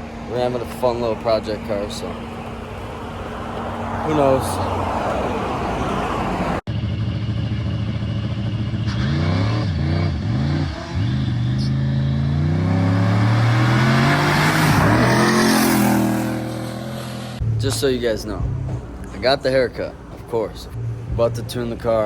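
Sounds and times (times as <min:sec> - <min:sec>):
car engine accelerating: 0:00.0 - 0:20.1.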